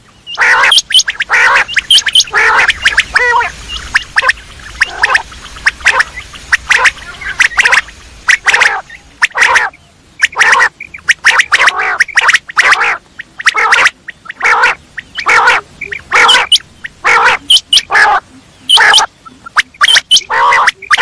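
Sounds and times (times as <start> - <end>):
quail calling: 0.0 - 21.0.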